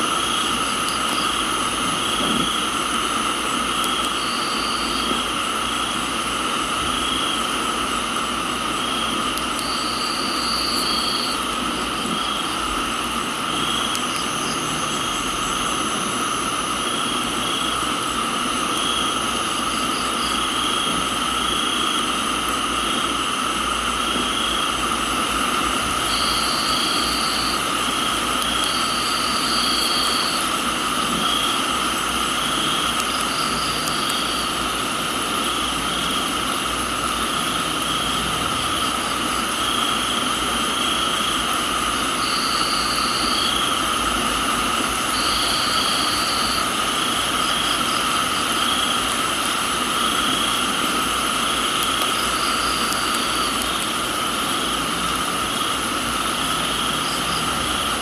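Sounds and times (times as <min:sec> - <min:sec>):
crickets trilling: 0:00.0 - 0:58.0
rain hiss: 0:00.0 - 0:58.0.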